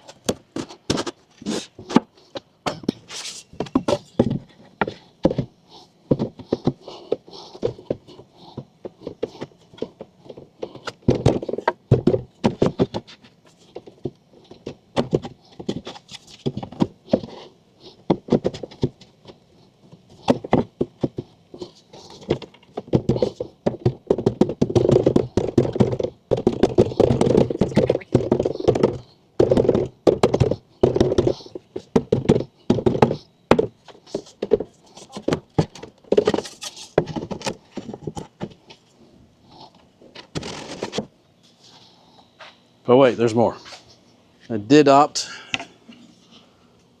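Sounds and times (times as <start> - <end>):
panels thunking and knocking: 0.0 - 38.8.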